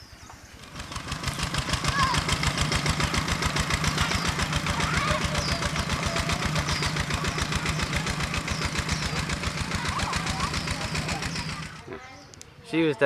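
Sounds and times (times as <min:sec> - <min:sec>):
diesel engine running: 0:00.5 - 0:12.3.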